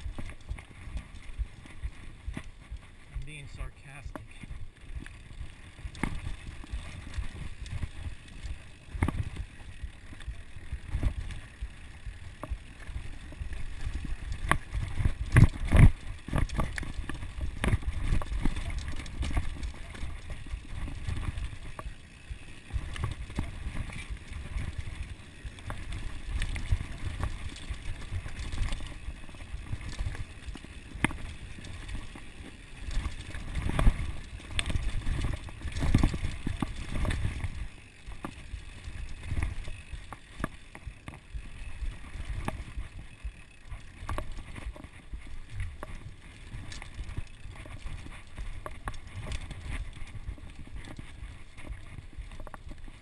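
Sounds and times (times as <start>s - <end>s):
bike clattering and rattling: 0.0s - 53.0s
bike tyres rumbling over dirt: 0.0s - 53.0s.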